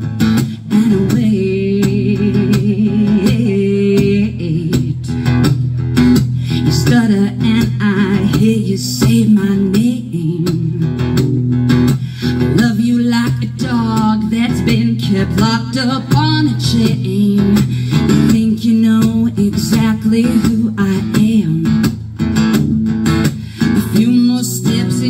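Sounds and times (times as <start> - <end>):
strummed acoustic guitar: 0.0 - 25.0
woman singing: 0.0 - 25.0.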